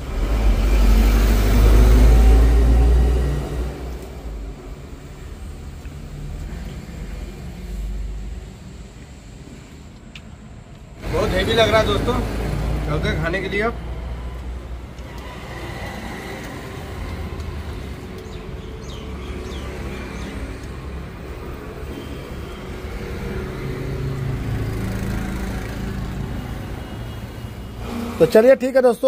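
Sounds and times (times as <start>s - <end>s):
road traffic engines: 0.0s - 29.0s.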